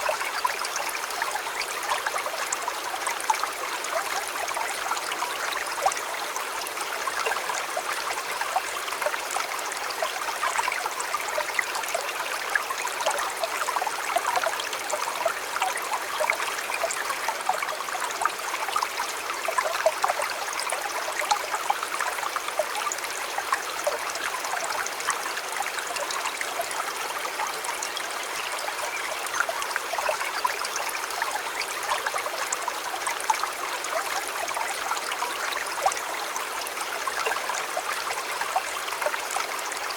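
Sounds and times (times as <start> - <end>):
stream flowing and babbling: 0.0 - 39.9.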